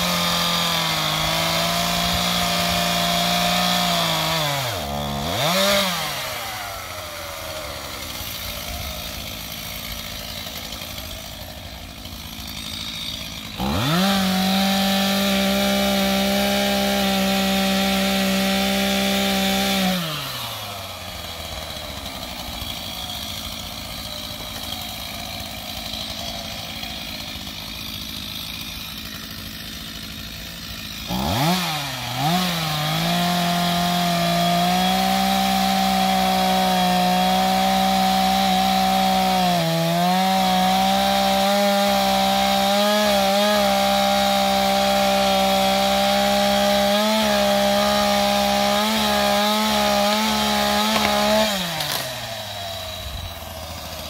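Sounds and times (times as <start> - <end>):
chainsaw idling: 0.0 - 54.0
chainsaw revving and cutting wood: 0.0 - 54.0.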